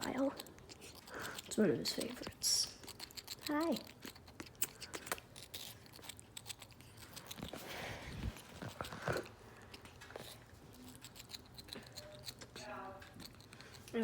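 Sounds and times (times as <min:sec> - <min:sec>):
parrot chewing watermelon: 0:00.0 - 0:14.0.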